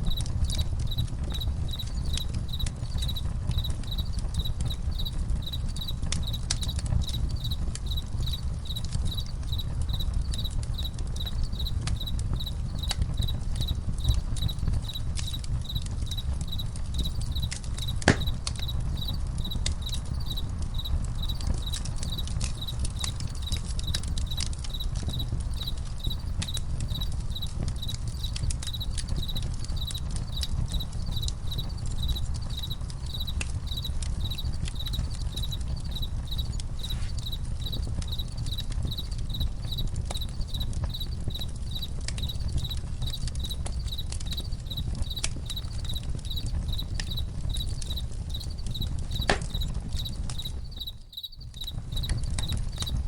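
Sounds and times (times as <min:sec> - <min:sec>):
campfire crackling: 0:00.0 - 0:53.0
cricket chirping: 0:00.0 - 0:53.0.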